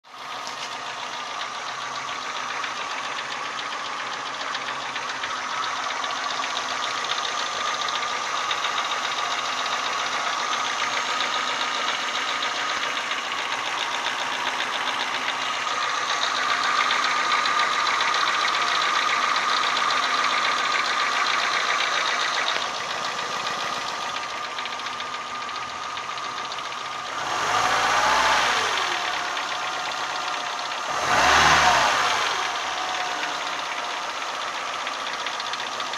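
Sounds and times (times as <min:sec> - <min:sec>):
car engine idling with knock: 0:00.1 - 0:35.9
car engine revving: 0:00.2 - 0:35.9.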